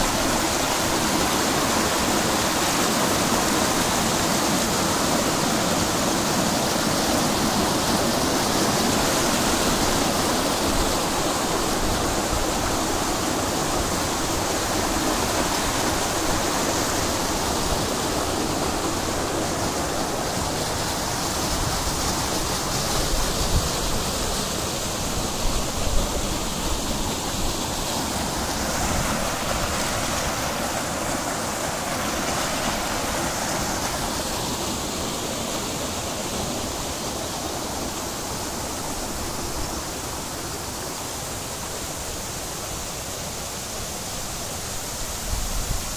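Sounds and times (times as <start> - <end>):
water rushing down stone steps: 0.0 - 45.9.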